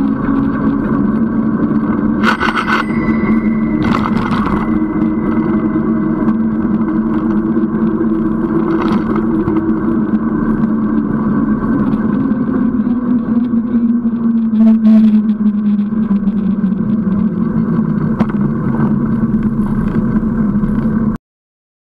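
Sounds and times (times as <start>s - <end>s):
bicycle tyres rolling on asphalt: 0.0s - 2.8s, 6.3s - 21.2s
wind drone: 0.0s - 21.2s.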